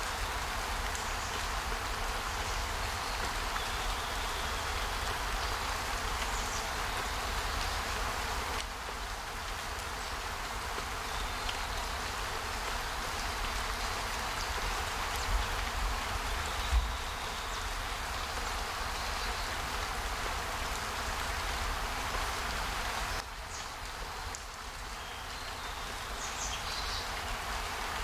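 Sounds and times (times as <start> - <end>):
outdoor hiss: 0.0 - 28.0.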